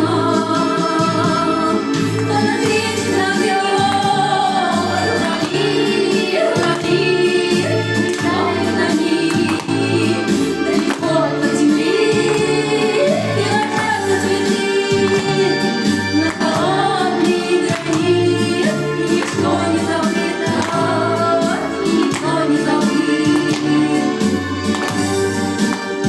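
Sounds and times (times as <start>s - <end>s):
song with sung vocals: 0.0s - 26.0s.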